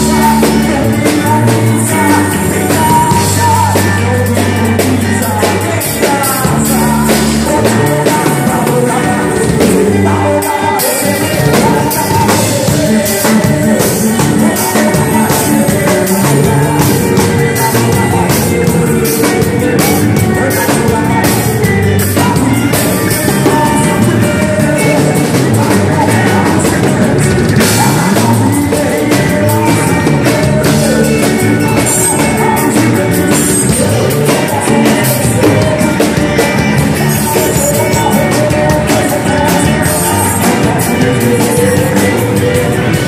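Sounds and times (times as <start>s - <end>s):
live band playing: 0.0s - 43.0s
person singing: 0.0s - 43.0s.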